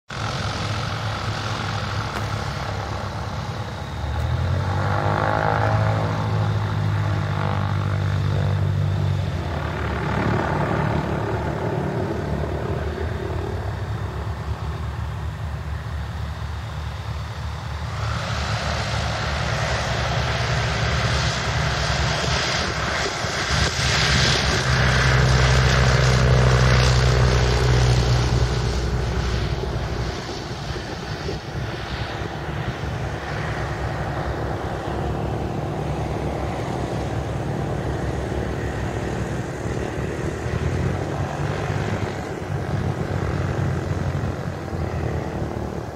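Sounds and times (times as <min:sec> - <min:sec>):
ultralight propeller engine drone: 0:00.1 - 0:45.9.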